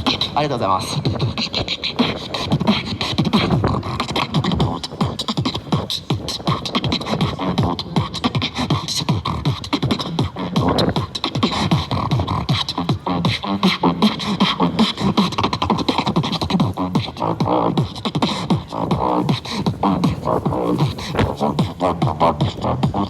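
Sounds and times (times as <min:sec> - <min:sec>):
beatboxing: 0:00.0 - 0:23.0.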